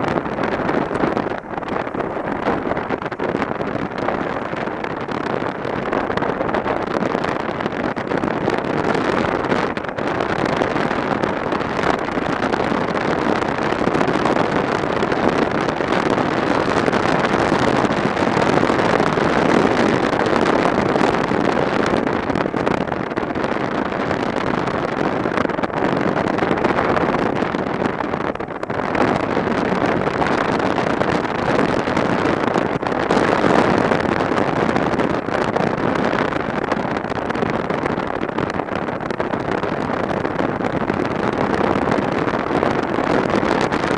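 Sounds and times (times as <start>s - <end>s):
road noise: 0.0s - 43.9s
wind rush over microphone: 0.0s - 43.9s.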